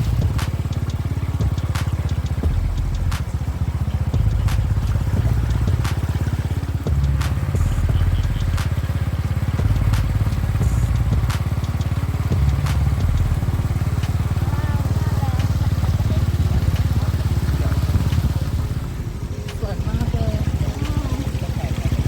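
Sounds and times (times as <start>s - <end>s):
motorcycle engine running: 0.0s - 22.0s
sidecar rig knocking and rattling: 0.0s - 22.0s.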